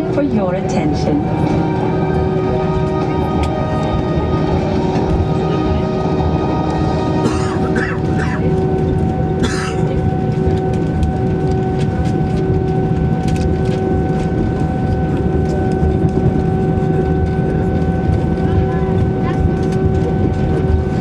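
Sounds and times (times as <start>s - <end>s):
jet engines idling whine: 0.0s - 21.0s
low cabin rumble: 0.0s - 21.0s.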